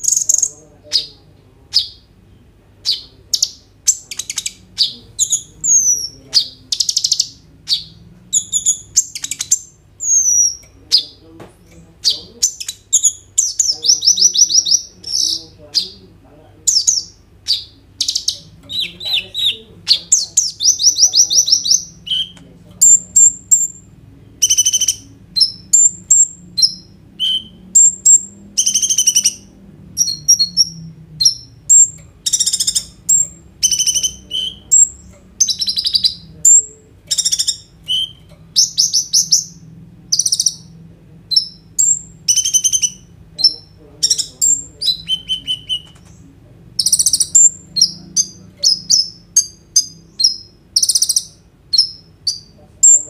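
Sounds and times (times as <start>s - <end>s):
sunbird singing: 0.0s - 53.0s.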